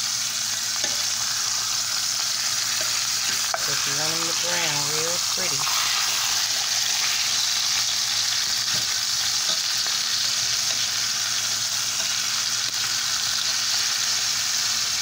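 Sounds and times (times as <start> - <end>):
meat sizzling in a skillet: 0.0 - 15.0.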